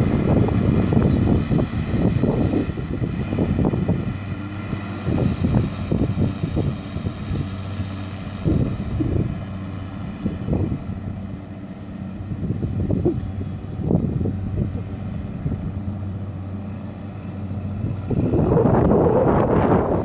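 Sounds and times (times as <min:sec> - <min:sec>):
machinery whine: 0:00.0 - 0:20.0
mowing machine engine drone: 0:00.0 - 0:20.0
wind buffeting microphone: 0:00.0 - 0:20.0.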